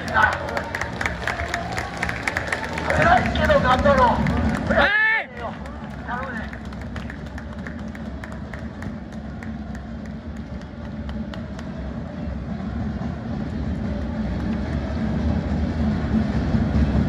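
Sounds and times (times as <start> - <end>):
people clapping: 0.0 - 15.8.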